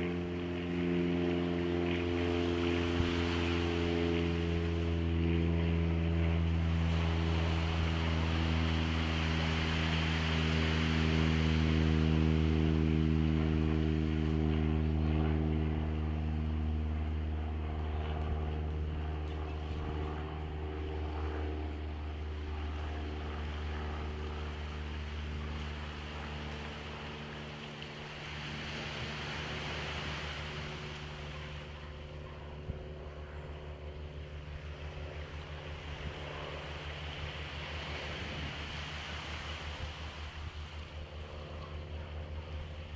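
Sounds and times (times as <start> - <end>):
passing engine droning: 0.0 - 42.9.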